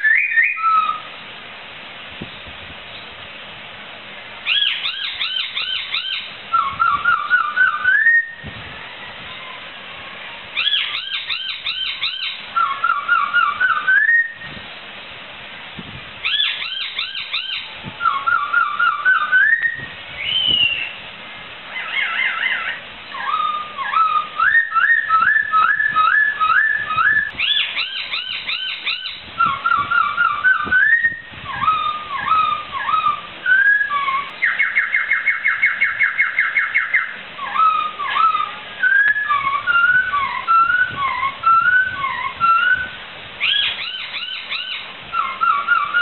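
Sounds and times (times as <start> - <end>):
bird singing whistled phrases: 0.0 - 1.1, 4.4 - 8.5, 10.6 - 14.5, 16.2 - 21.0, 21.8 - 46.0.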